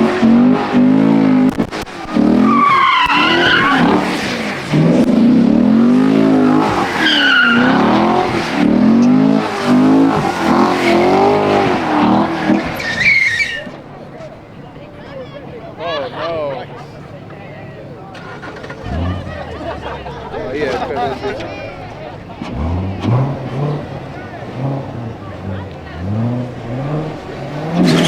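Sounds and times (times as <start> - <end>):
car engine revving: 0.0 - 28.0
tyres squealing: 0.4 - 28.0.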